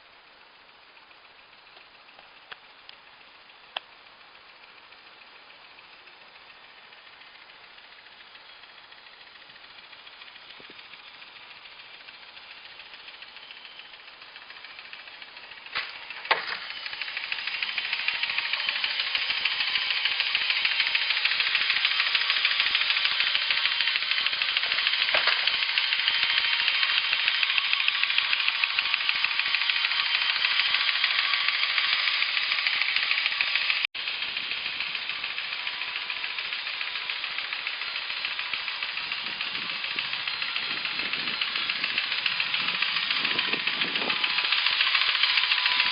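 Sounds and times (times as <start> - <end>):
model train running on track: 0.0 - 45.9
sharp clicks: 1.7 - 45.9.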